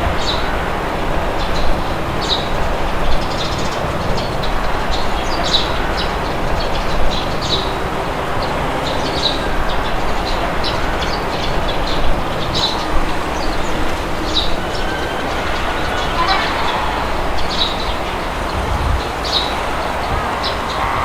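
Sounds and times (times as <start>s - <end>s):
birds chirping: 0.0s - 21.0s
wind rushing: 0.0s - 21.0s.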